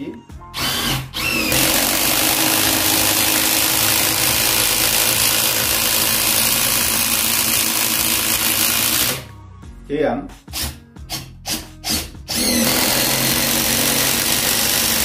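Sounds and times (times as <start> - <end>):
impact driver driving screw into wood: 0.6 - 9.3, 10.5 - 15.0.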